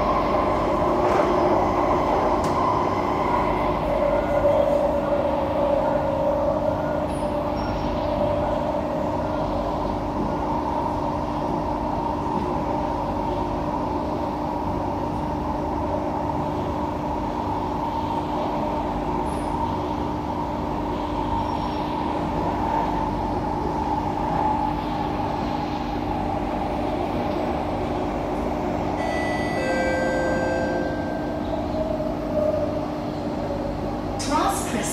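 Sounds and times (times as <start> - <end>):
constant hum: 0.0 - 34.9
train rumble inside carriage: 0.0 - 34.9.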